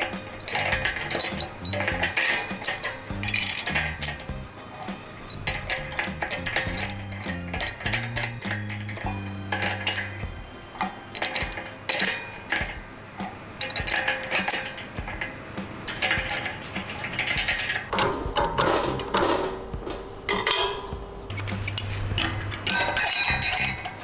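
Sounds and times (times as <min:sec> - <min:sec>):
metal grinder blades clinking: 0:00.0 - 0:19.5, 0:20.3 - 0:24.0.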